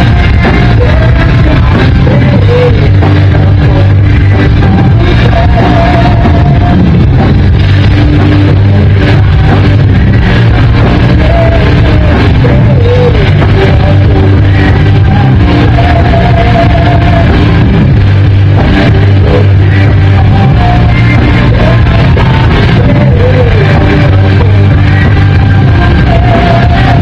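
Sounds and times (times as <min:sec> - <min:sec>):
drums: 0:00.0 - 0:27.0
electric guitars: 0:00.0 - 0:27.0
person singing: 0:00.0 - 0:27.0.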